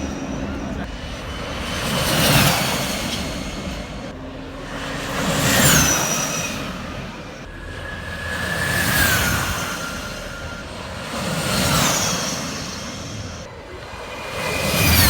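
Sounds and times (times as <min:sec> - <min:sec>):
electric motorcycles passing: 0:00.0 - 0:15.0.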